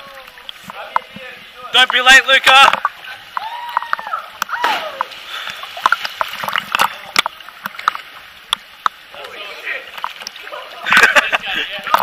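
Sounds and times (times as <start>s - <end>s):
water slapping and splashing: 0.0s - 12.0s.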